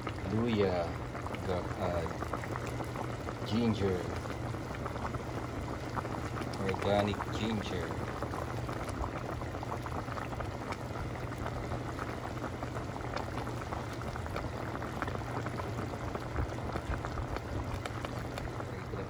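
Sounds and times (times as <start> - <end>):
broth bubbling in a pot: 0.0 - 19.0
low steady hum: 0.0 - 19.0.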